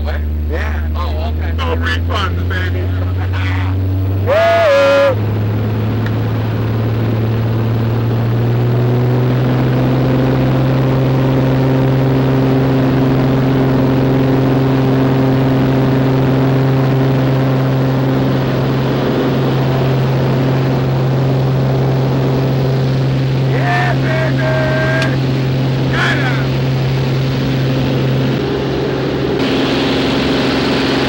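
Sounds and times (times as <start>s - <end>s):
propeller plane engine drone: 0.0s - 31.0s.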